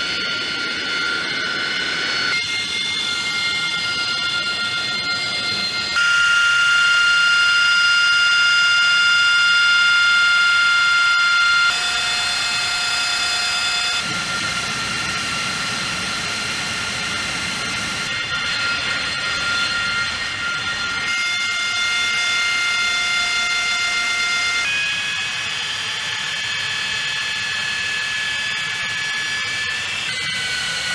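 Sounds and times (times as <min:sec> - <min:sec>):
jet engine idling whine: 0:00.0 - 0:30.9.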